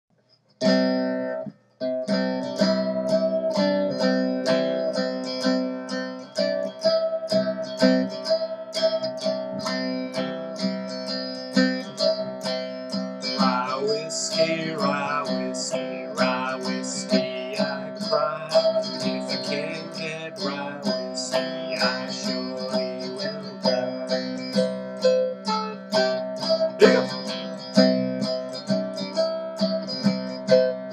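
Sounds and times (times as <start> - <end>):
plucked cigar box guitar: 0.6 - 30.9.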